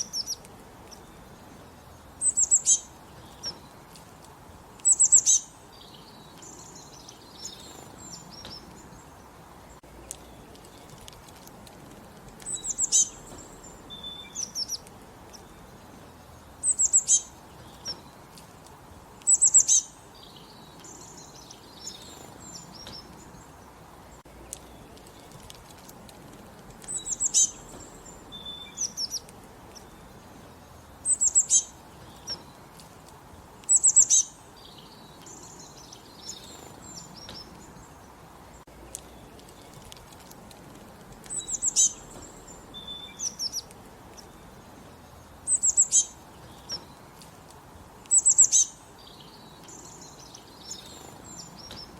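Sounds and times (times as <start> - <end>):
faint steady hiss: 0.0 - 51.9
soft bird chirps: 0.0 - 51.9.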